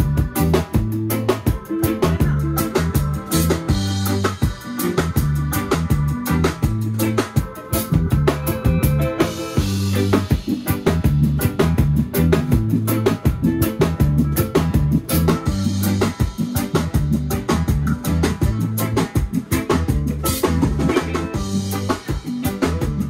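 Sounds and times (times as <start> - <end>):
bass line: 0.0 - 23.0
drum kit beat: 0.0 - 23.0.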